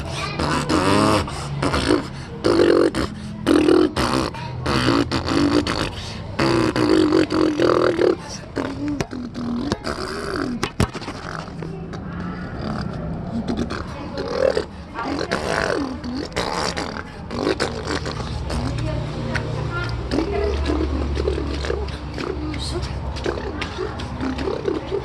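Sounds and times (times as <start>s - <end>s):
person beatboxing and growling: 0.0s - 25.0s.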